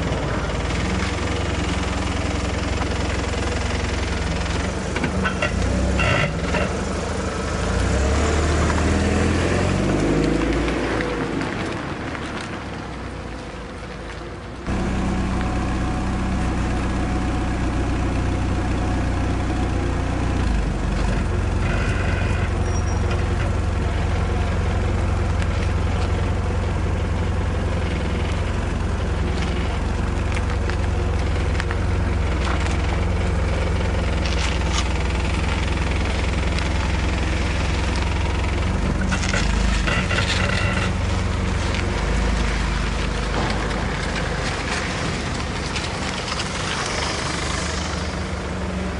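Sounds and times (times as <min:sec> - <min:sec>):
engine idling: 0:00.0 - 0:09.3, 0:14.4 - 0:48.9.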